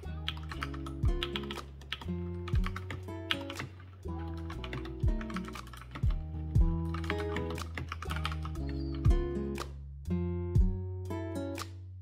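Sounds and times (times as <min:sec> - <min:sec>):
background music with beat: 0:00.3 - 0:11.9.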